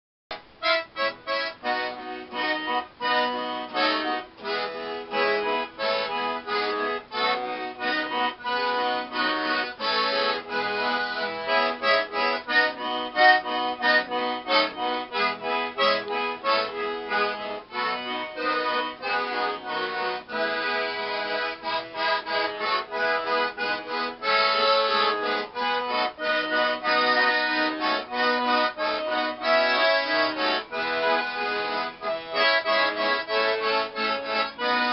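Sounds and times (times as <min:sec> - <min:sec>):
accordion melody: 0:00.3 - 0:34.9.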